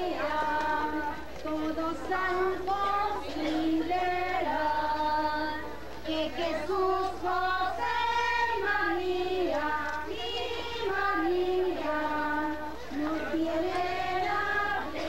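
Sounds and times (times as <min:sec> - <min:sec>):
children and women singing: 0:00.0 - 0:15.0.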